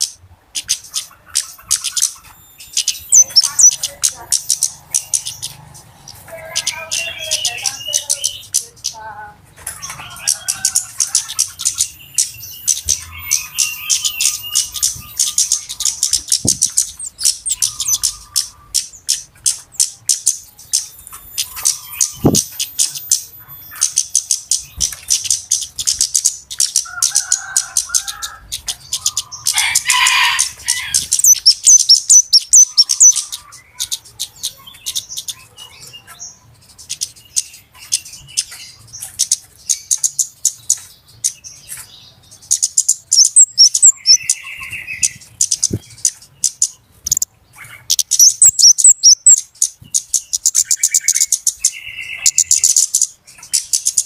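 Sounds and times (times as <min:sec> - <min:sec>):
bird chattering: 0:00.0 - 0:54.0
birds calling with sharp chips: 0:00.0 - 0:54.0.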